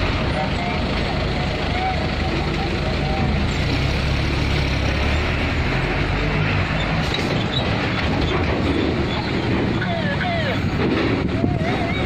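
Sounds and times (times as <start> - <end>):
heavy engine rumbling: 0.0 - 12.0
noisy background din: 0.0 - 12.0.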